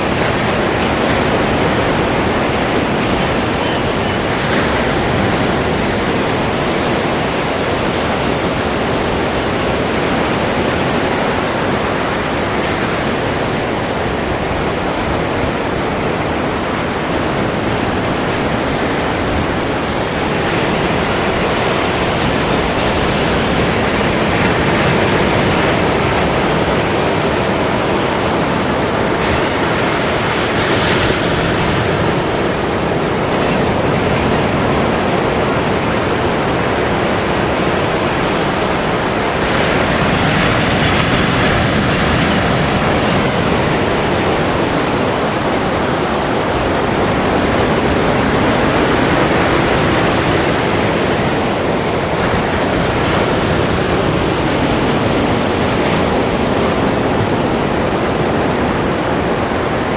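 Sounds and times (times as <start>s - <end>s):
breaking ocean waves: 0.0s - 59.9s.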